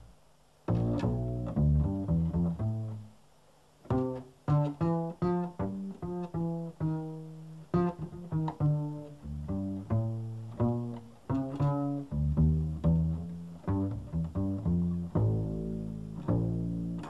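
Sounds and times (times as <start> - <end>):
plucked double bass: 0.0 - 3.2, 3.8 - 17.0.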